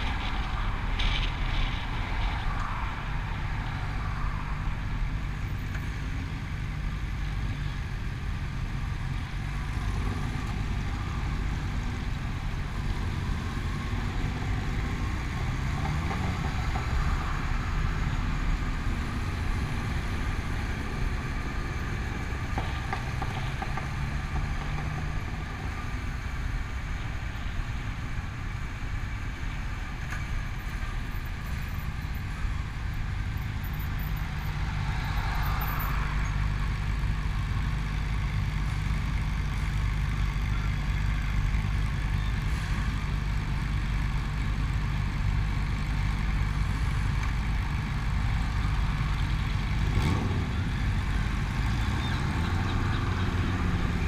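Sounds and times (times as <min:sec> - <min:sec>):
motor vehicle low rumble: 0:00.0 - 0:54.0.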